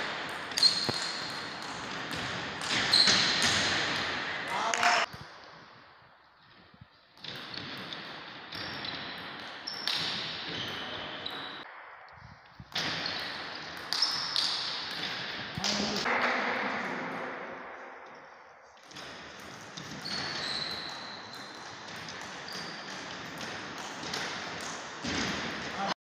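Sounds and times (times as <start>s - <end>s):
ping-pong ball hitting paddles and table: 0.0s - 5.3s, 7.2s - 11.7s, 12.6s - 18.1s, 18.8s - 26.0s.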